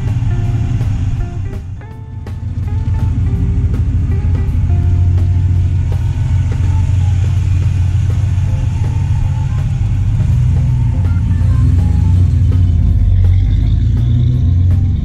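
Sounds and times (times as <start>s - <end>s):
background music melodic notes: 0.0s - 15.0s
deep low rumble: 0.0s - 15.0s.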